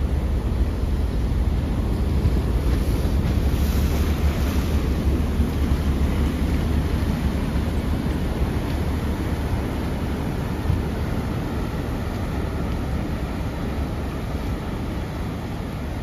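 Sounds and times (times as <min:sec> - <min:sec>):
ship engine deep rumble: 0:00.0 - 0:16.0
wind buffeting microphone: 0:00.0 - 0:16.0.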